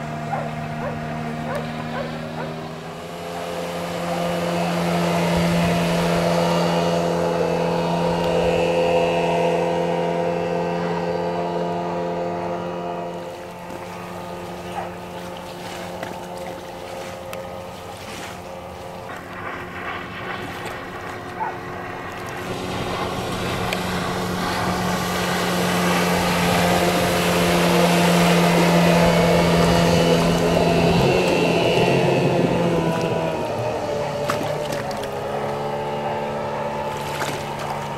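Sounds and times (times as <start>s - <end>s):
outboard motor running: 0.0s - 37.9s
water and wind noise: 0.0s - 37.9s.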